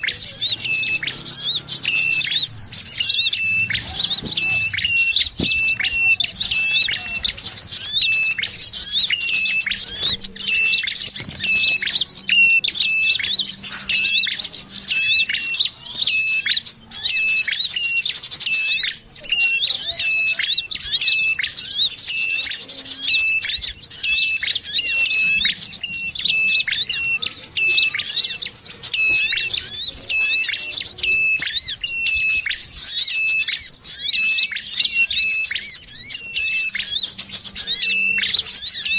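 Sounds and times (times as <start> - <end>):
high bird chattering: 0.0 - 38.9.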